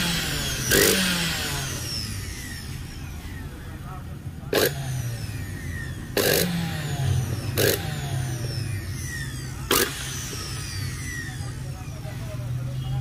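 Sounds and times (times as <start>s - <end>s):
mixer grinder motor bursts: 0.0s - 12.1s
steady low hum: 0.0s - 13.0s.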